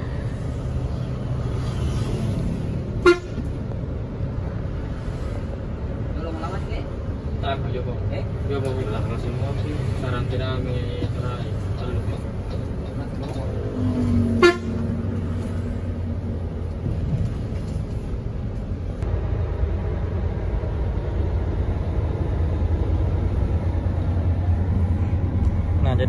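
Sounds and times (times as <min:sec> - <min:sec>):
bus engine low drone: 0:00.0 - 0:26.0.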